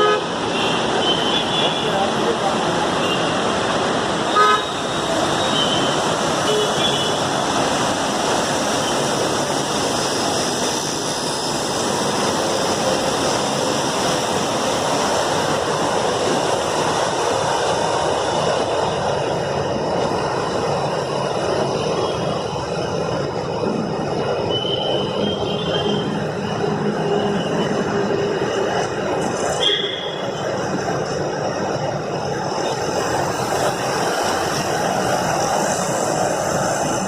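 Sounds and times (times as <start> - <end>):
steady rushing noise: 0.0 - 37.0.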